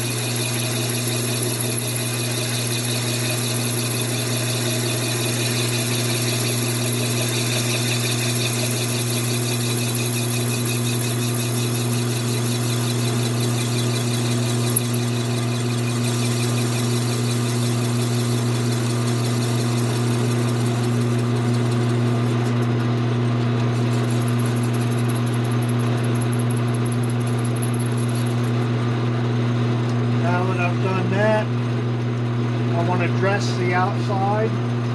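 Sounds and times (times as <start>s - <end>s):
metal lathe motor hum: 0.0s - 28.7s.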